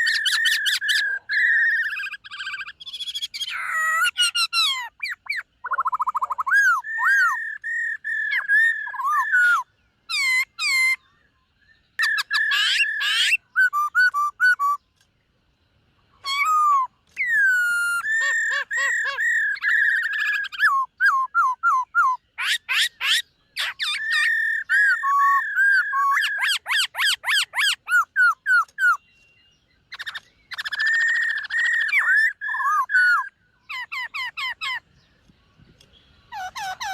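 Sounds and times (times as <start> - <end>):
laughingthrush singing whistled phrases: 0.0 - 11.1, 12.0 - 14.8, 16.2 - 29.0, 29.9 - 34.8.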